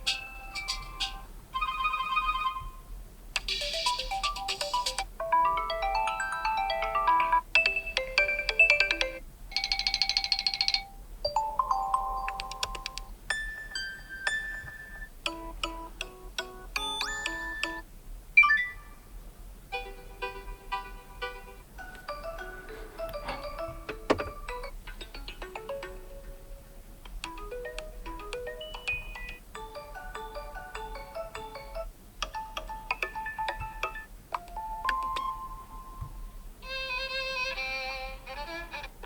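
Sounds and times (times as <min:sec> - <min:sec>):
electronic ringtone melodies: 0:00.0 - 0:02.8, 0:03.5 - 0:17.8, 0:18.4 - 0:19.0, 0:19.7 - 0:26.4, 0:27.3 - 0:36.0.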